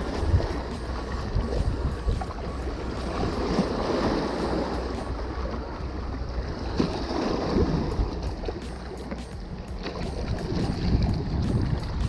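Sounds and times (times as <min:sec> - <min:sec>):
wind rumbling on microphone: 0:00.0 - 0:08.6, 0:09.3 - 0:12.0
seawater splashing against rocks: 0:00.0 - 0:12.0.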